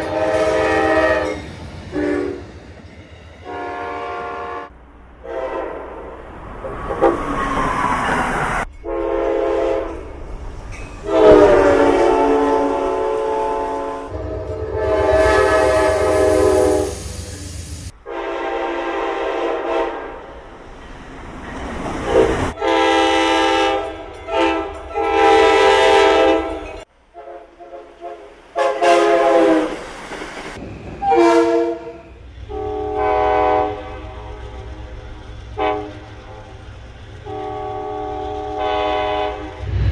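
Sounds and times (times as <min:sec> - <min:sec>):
train horns blasting: 0:00.0 - 0:02.7, 0:03.4 - 0:20.5, 0:22.0 - 0:29.9, 0:31.0 - 0:39.9
low train rumble: 0:00.0 - 0:39.9.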